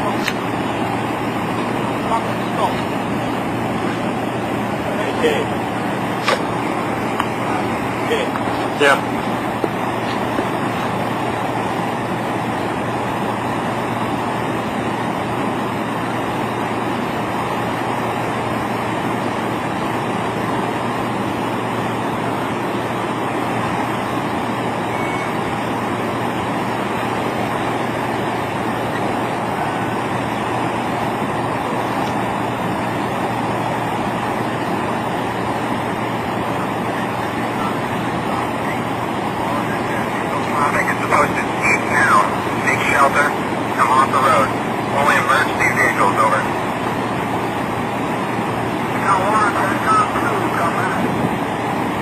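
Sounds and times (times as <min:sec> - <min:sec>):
vehicle engine and road noise: 0:00.0 - 0:52.0.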